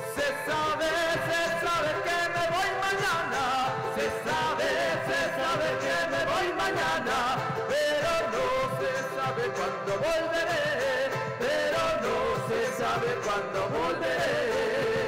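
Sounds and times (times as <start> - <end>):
acoustic guitars: 0.0 - 15.0
man and woman singing: 0.0 - 15.0.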